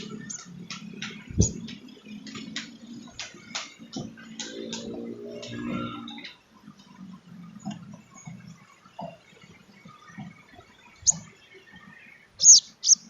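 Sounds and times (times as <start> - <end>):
sunbird chirping: 0.0 - 4.6, 6.9 - 13.0.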